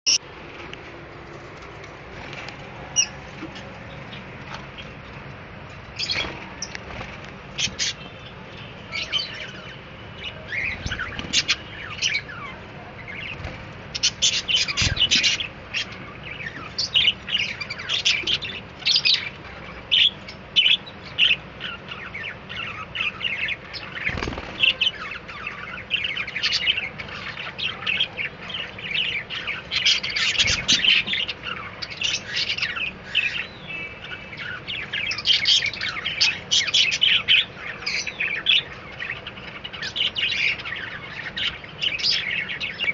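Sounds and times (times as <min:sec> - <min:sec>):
budgerigars chirping: 0:05.9 - 0:42.9.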